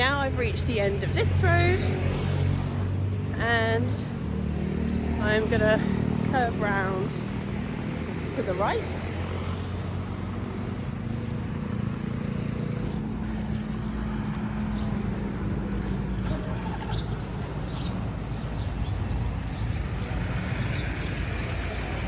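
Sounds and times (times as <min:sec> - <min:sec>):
passing vehicle engine hum: 0:00.0 - 0:22.0
small birds chirping: 0:00.0 - 0:22.0.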